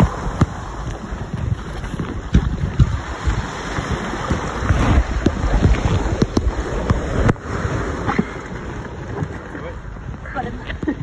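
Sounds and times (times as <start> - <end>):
waves breaking in surf: 0.0 - 11.0
wind buffeting microphone: 0.0 - 11.0.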